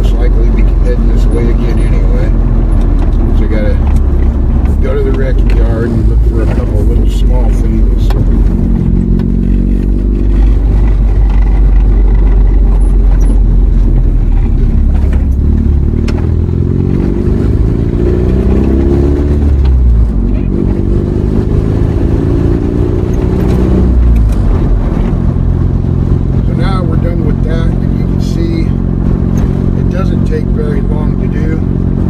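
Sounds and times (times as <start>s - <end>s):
road noise: 0.0s - 32.0s
vehicle engine hum: 0.0s - 32.0s.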